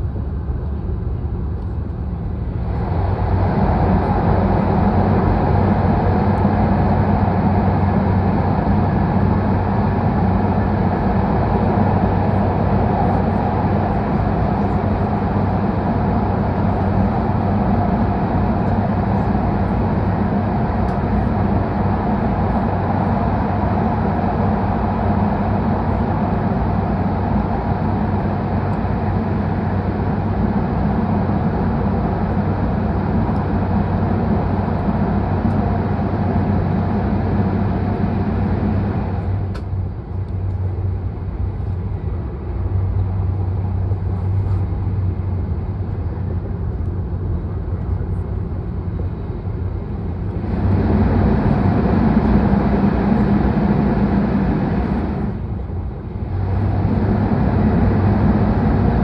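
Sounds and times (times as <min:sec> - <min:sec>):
train running rumble in cabin: 0:00.0 - 0:59.0.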